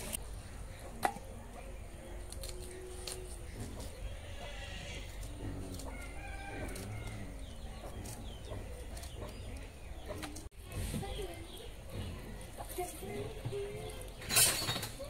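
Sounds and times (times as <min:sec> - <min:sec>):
chickens clucking: 0:00.1 - 0:14.2.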